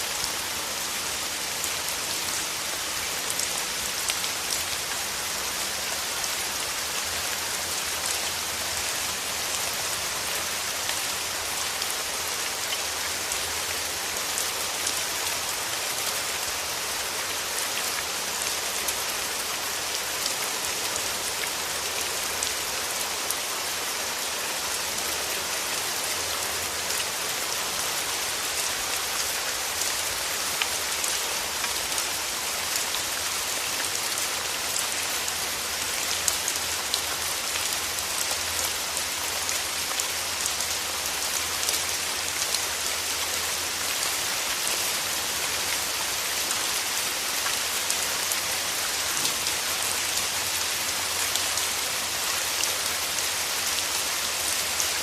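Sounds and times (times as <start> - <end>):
steady rain on trees: 0.0 - 55.0.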